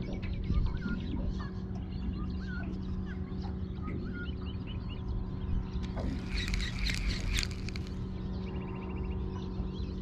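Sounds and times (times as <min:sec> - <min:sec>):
birds chirping and whistling: 0:00.0 - 0:10.0
steady low hum: 0:00.0 - 0:10.0.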